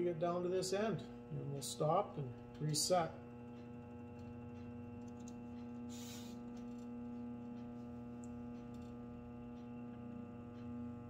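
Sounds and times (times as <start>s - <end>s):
bead roller electric hum: 0.0s - 11.0s.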